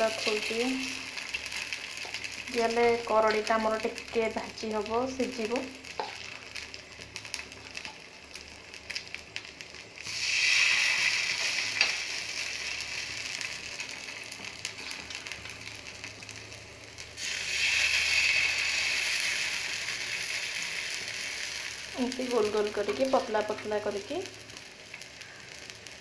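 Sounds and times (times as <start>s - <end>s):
batter sizzling in hot oil: 0.0s - 26.0s
faint oil crackle: 0.0s - 26.0s.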